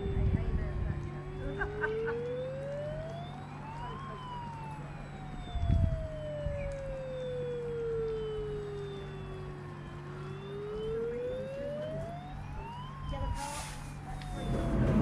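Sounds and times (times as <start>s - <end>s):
siren wail: 0.0s - 15.0s.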